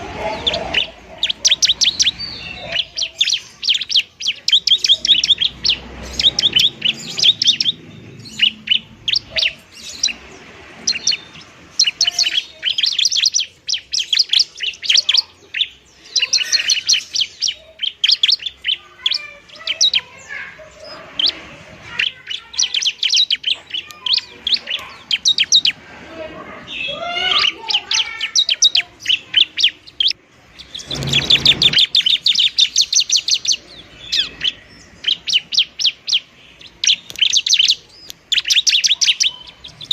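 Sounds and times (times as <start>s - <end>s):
bird singing rapid sharp chirps: 0.0s - 26.0s, 26.6s - 39.9s.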